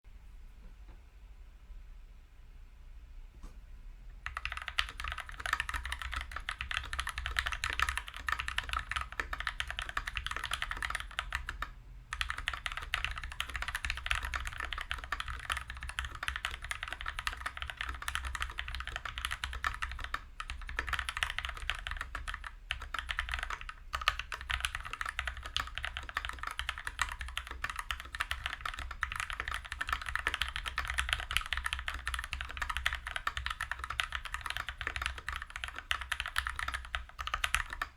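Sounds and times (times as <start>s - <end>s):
mechanical keyboard typing: 4.2s - 37.9s.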